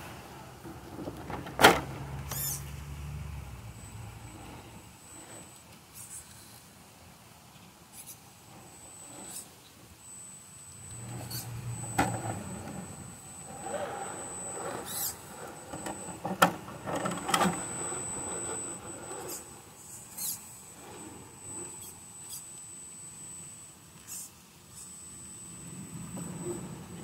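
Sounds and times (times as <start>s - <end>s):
electric motor and gears whining: 0.8s - 6.3s, 8.0s - 27.0s.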